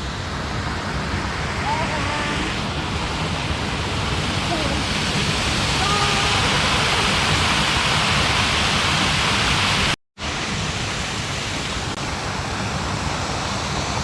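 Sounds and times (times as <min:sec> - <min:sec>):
waterfall rushing: 0:00.1 - 0:14.0.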